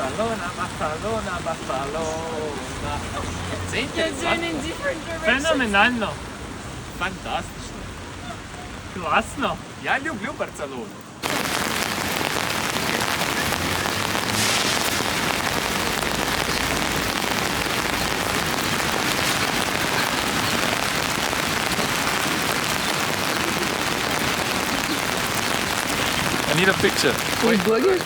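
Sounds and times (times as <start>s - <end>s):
heavy rain on hard surfaces: 0.0s - 28.0s.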